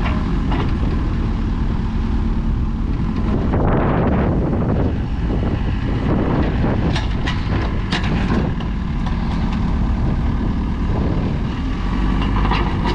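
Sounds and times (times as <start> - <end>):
excavator diesel engine running: 0.0 - 12.9.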